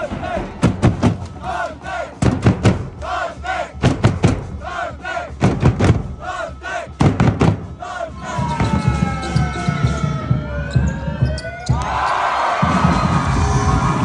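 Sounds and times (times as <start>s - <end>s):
crowd chanting: 0.0s - 9.0s, 11.7s - 14.0s
bass drum beats: 0.0s - 14.0s.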